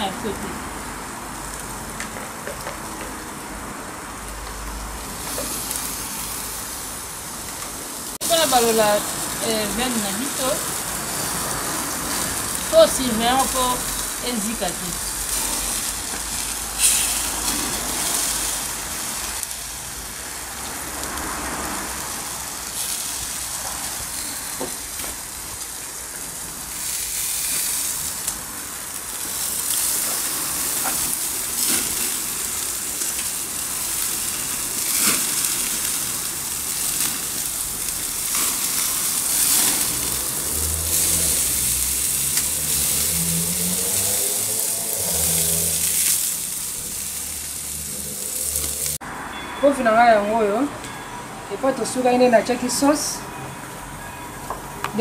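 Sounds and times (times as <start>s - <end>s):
food sizzling and frying: 0.0s - 50.6s.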